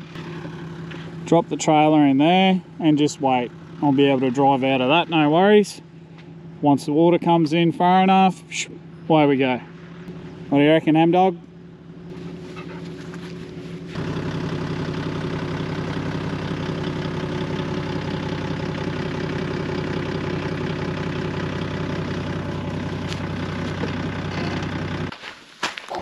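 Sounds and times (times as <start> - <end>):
vehicle engine running steadily: 0.0 - 25.2.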